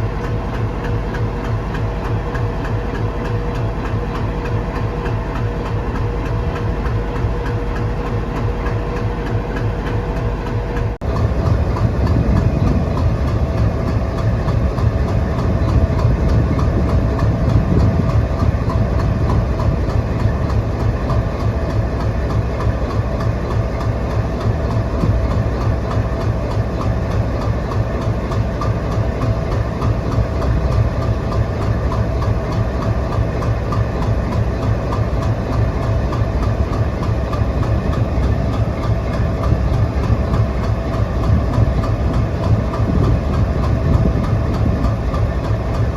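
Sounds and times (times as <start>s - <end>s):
train wheels clattering on rails: 0.0s - 45.9s.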